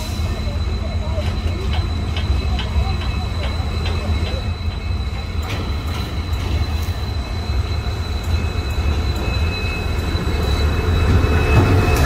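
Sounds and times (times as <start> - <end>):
locomotive engine and track rumble: 0.0 - 12.0.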